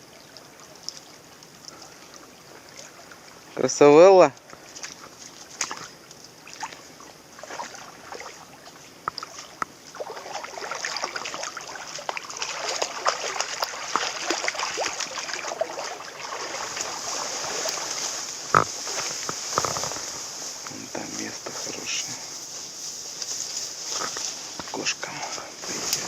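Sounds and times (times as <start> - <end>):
river running over stones: 0.0 - 22.4
water splashing: 0.0 - 26.0.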